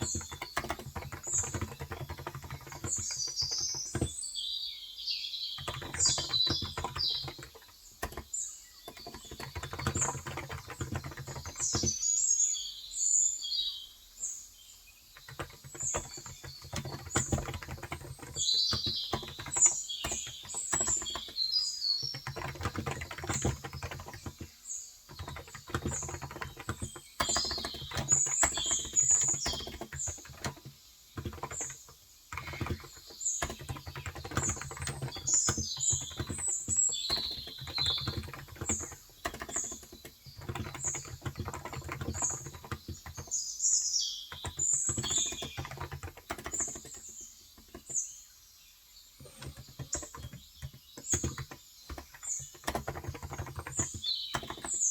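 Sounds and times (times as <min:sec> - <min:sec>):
typing on keyboard: 0:00.0 - 0:04.3, 0:05.6 - 0:12.6, 0:15.1 - 0:48.2, 0:49.2 - 0:54.9
small birds chirping: 0:00.0 - 0:54.9.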